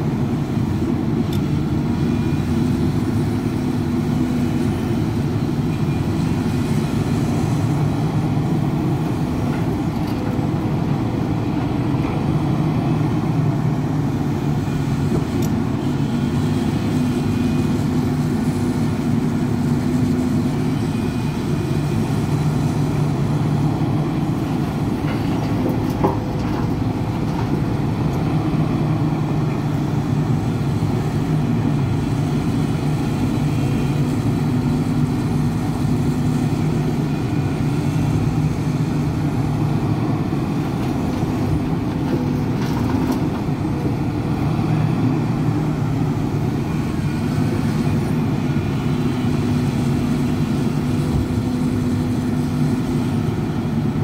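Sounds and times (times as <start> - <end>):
excavator engine rumbling: 0.0 - 54.0.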